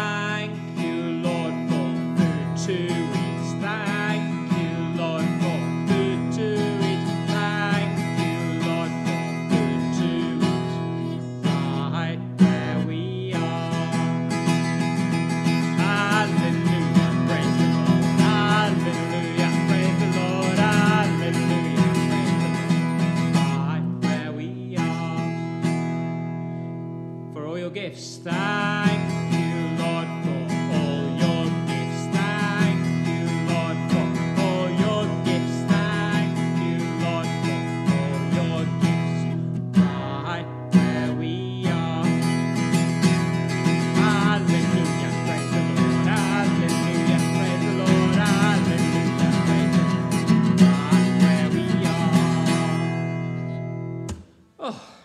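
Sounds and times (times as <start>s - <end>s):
man singing: 0.0s - 26.0s, 27.3s - 53.4s
strummed acoustic guitar: 0.0s - 54.4s.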